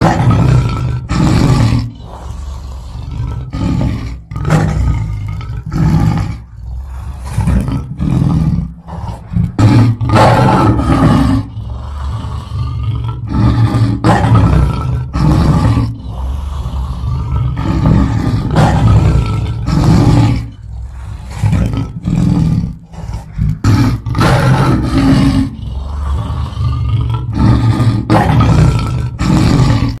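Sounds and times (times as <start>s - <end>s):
lion roaring: 0.0s - 30.0s.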